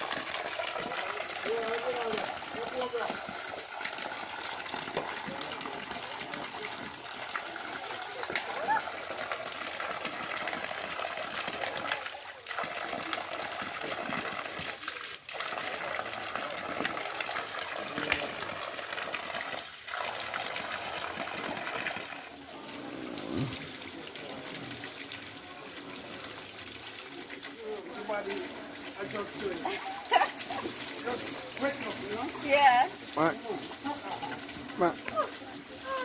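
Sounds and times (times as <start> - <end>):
spring water gushing: 0.0 - 36.0.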